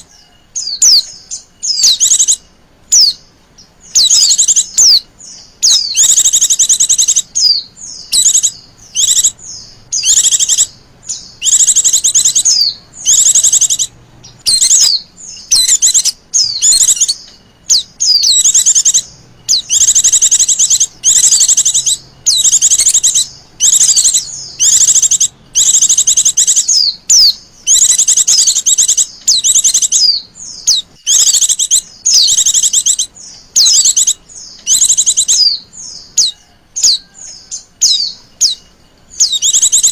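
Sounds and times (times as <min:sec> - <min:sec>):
bird high trilling chatter: 0:00.0 - 0:39.9.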